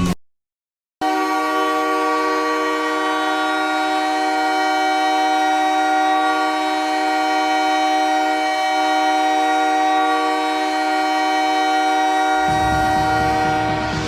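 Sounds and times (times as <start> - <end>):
goal horn blast: 1.0 - 14.0.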